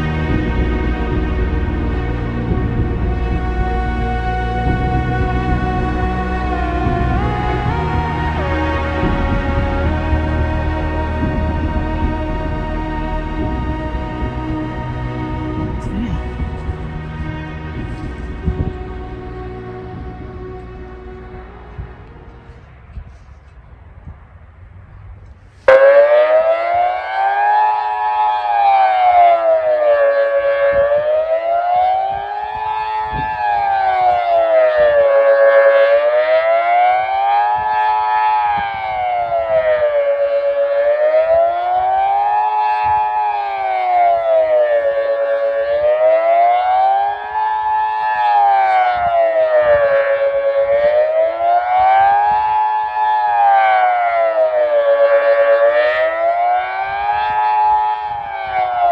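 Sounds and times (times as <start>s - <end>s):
electronic siren wailing: 0.0s - 23.1s, 25.7s - 58.9s
wind buffeting microphone: 0.0s - 58.9s.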